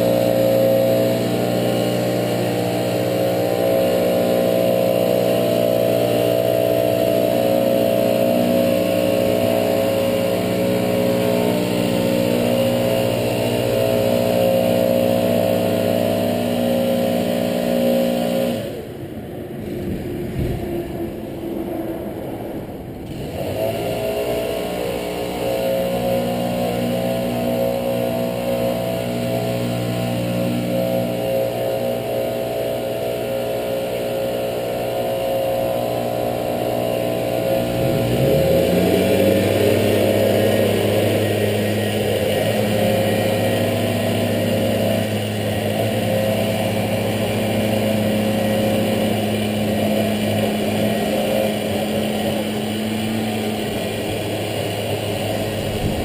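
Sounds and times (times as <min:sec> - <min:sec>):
leaf blower engine running: 0:00.0 - 0:56.0.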